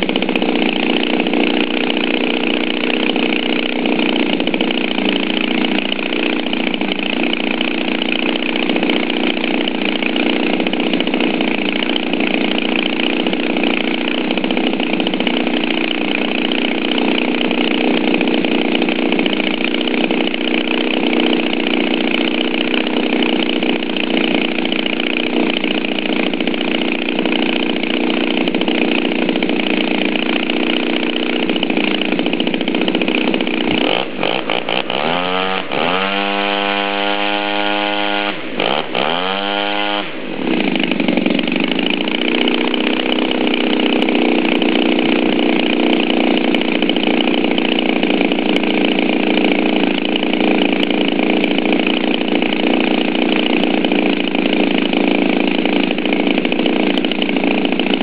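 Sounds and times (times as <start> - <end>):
model aircraft engine revving: 0.0 - 58.0.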